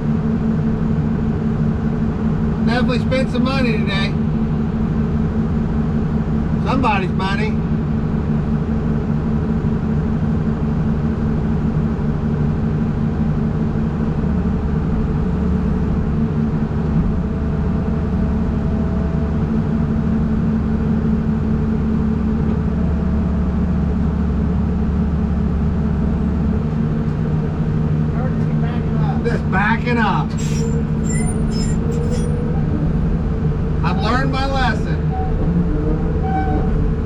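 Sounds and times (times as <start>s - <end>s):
heavy vehicle engine running: 0.0s - 37.0s.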